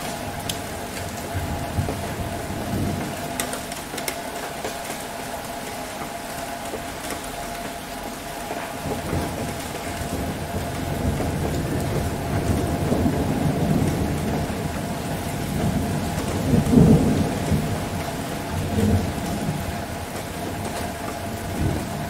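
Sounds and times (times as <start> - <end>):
thunder rumbling: 0.0 - 7.6, 8.4 - 22.0
steady rain: 0.0 - 22.0.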